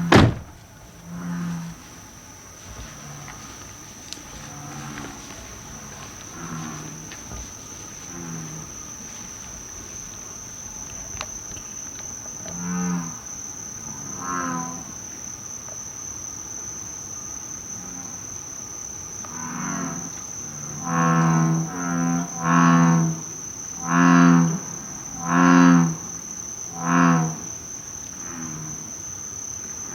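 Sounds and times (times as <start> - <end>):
bullfrogs croaking: 0.0 - 29.9
high insect trill: 0.0 - 29.9.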